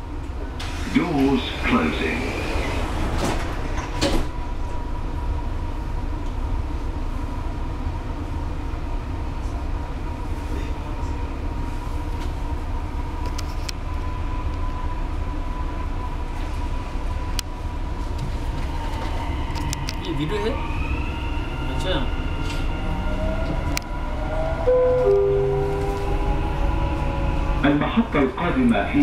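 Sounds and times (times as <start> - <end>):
train rumbling with whine: 0.0 - 29.0.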